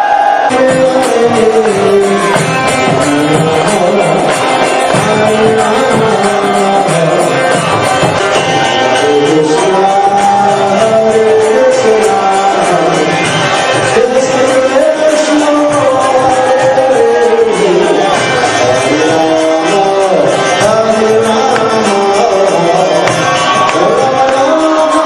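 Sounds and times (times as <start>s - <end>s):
hand drums: 0.6s - 25.0s
jingling percussion: 0.6s - 25.0s.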